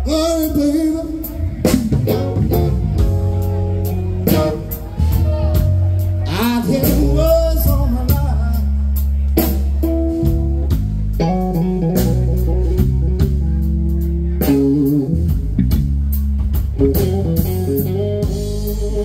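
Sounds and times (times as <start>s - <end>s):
bass guitar: 0.0s - 19.0s
drum kit beat: 0.0s - 19.0s
electric guitar lead: 0.0s - 19.0s.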